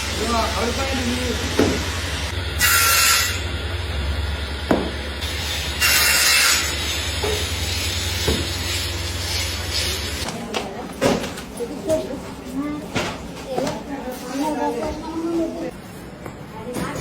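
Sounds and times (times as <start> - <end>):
factory machine humming: 0.0 - 15.8.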